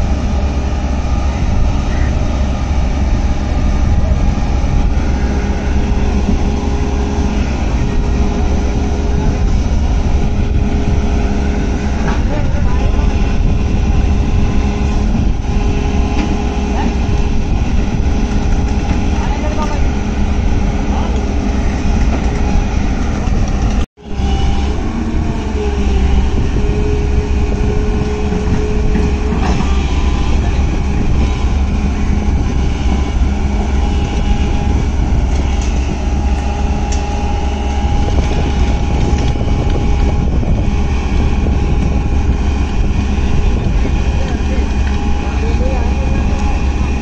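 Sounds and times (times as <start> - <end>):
excavator diesel engine rumbling: 0.0 - 47.0.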